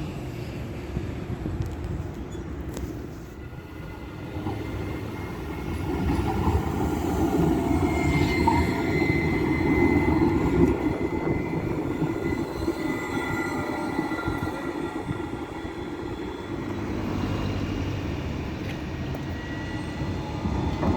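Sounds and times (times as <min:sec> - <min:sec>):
tram rumbling on rails: 0:00.0 - 0:20.9.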